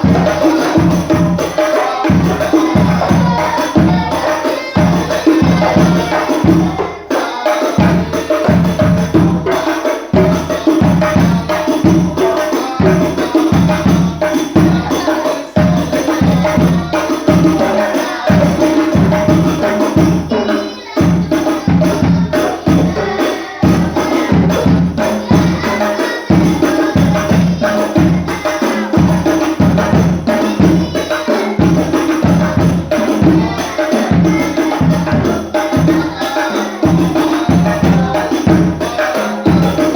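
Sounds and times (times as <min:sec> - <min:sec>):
frame drums beating: 0:00.0 - 0:39.9
group singing: 0:00.0 - 0:39.9.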